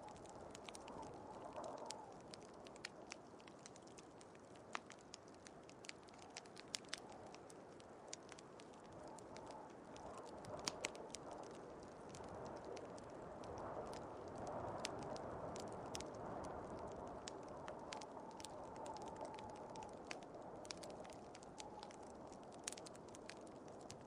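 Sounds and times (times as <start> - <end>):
fire popping: 0.0 - 24.0
wood fire crackling: 0.0 - 24.0.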